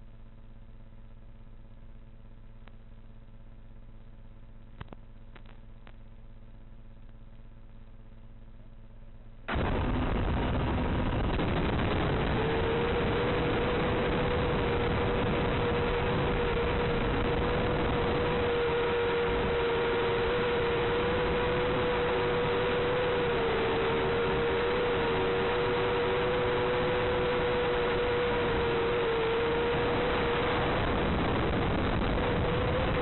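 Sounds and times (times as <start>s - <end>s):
constant hum: 0.0s - 33.0s.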